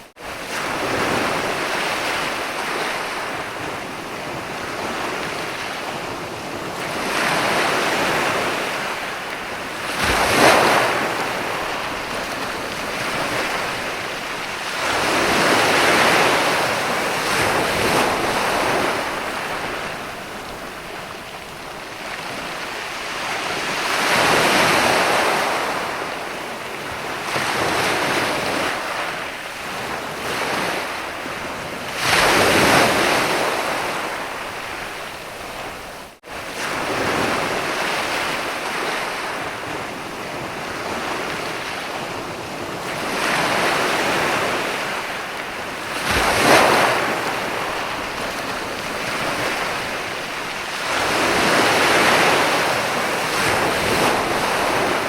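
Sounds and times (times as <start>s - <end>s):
ocean waves breaking on beach: 0.0s - 55.0s
wind noise on microphone: 0.0s - 55.0s.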